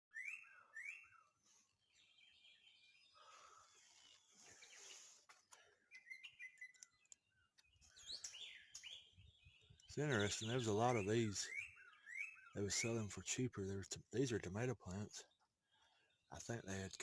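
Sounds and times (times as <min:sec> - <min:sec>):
birds chirping: 0:00.1 - 0:17.0.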